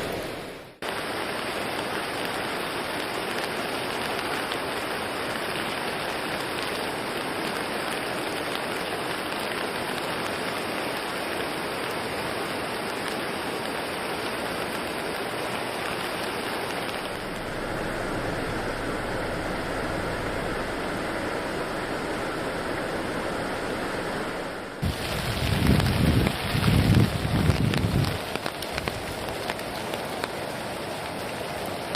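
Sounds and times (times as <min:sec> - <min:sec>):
rain: 0:00.0 - 0:31.9
river rushing: 0:00.0 - 0:31.9.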